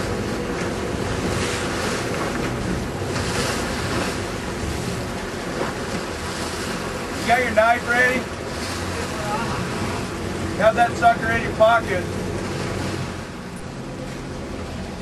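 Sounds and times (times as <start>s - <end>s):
boat engine rumble: 0.0s - 15.0s
water washing past hull: 0.0s - 15.0s.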